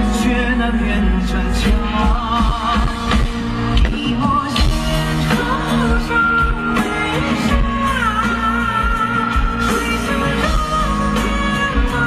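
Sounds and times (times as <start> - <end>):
live pop rock band: 0.0 - 12.0.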